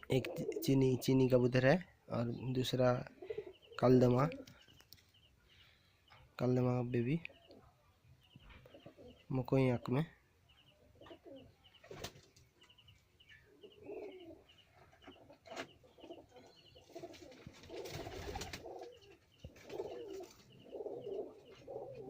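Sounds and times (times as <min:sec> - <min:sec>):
pigeons cooing: 0:00.0 - 0:04.8, 0:07.3 - 0:09.3, 0:10.5 - 0:22.0.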